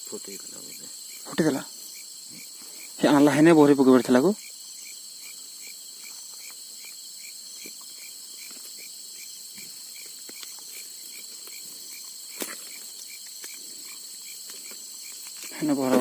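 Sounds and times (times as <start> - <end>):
crickets trilling: 0.0 - 16.0
short repeating insect call: 0.0 - 16.0.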